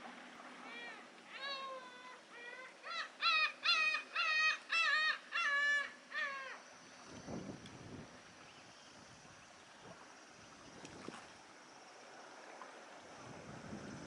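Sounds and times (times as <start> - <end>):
harbour water wash: 0.0 - 14.0.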